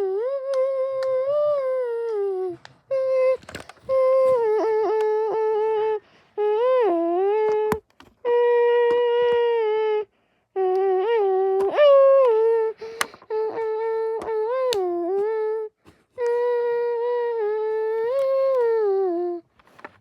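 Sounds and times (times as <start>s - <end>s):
child humming: 0.0s - 19.5s.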